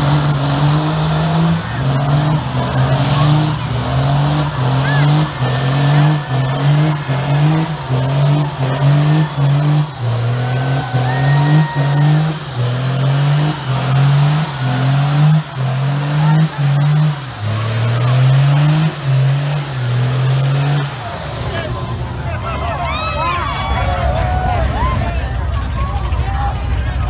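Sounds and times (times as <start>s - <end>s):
diesel engine revving hard: 0.0s - 22.8s
tires spinning: 0.0s - 27.0s.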